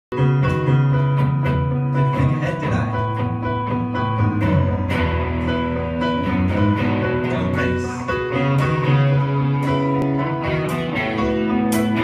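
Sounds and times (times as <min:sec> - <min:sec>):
guitar music: 0:00.1 - 0:12.0.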